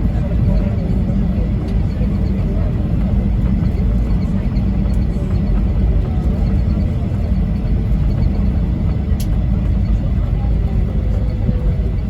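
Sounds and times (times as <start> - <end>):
jet engines idling in cabin: 0.0 - 12.0.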